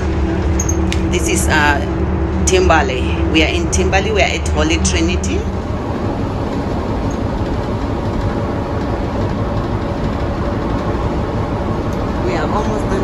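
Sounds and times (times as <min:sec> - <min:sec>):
bus engine drone: 0:00.0 - 0:13.0
road rumble: 0:00.0 - 0:13.0.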